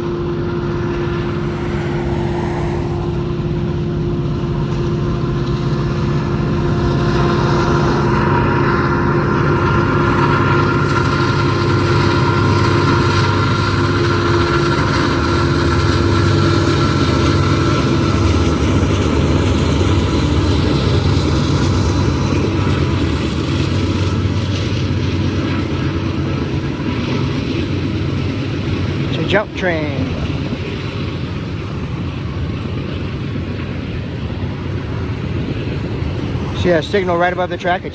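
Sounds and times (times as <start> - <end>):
locomotive engine rumble: 0.0 - 37.9.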